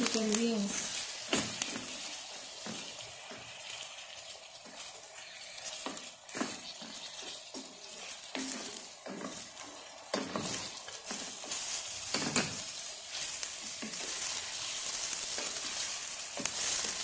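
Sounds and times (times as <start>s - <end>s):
chicken sizzling in hot oil: 0.0s - 17.0s
wooden spoon scraping a pot: 0.7s - 17.0s.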